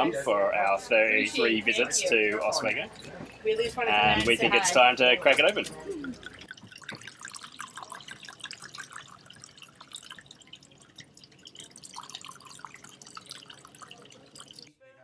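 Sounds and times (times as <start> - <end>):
wine glugging and splashing into glass: 2.3 - 14.7.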